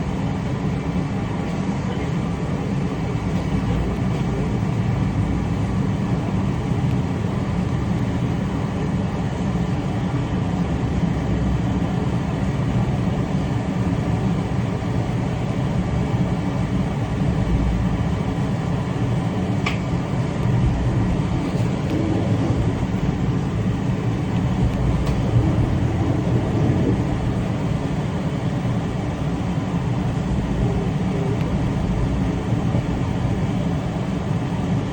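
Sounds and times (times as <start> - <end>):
train rumbling at speed: 0.0 - 34.9.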